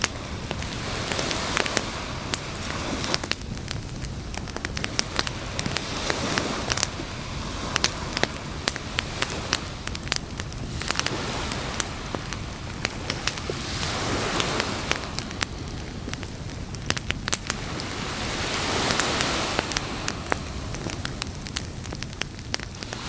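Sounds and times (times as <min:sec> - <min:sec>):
campfire pops and snaps: 0:00.0 - 0:23.0
fire rushing hiss: 0:00.0 - 0:23.0.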